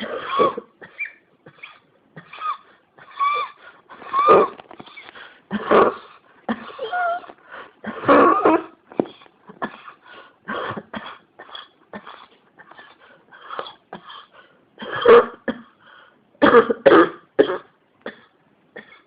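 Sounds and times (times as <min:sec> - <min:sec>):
person coughing harshly: 0:00.0 - 0:04.6, 0:05.5 - 0:15.8, 0:16.4 - 0:19.0.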